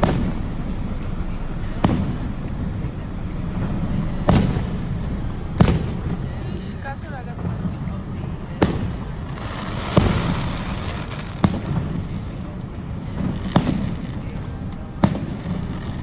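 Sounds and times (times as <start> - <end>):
fireworks booming: 0.0 - 16.0
low rumble: 0.0 - 16.0.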